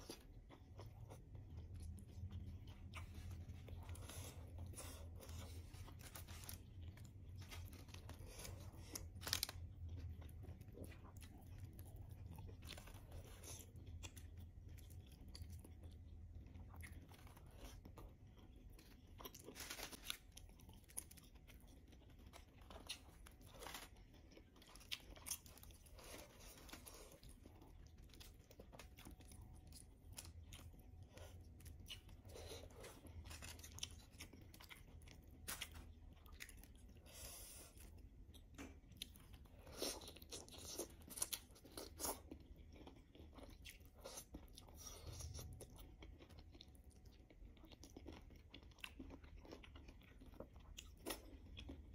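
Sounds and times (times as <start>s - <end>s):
close chewing and mouth sounds: 0.0s - 51.9s.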